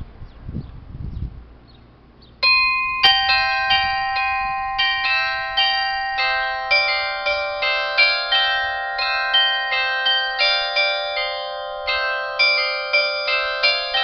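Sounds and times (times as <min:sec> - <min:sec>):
bells chiming a melody: 0:02.4 - 0:14.0.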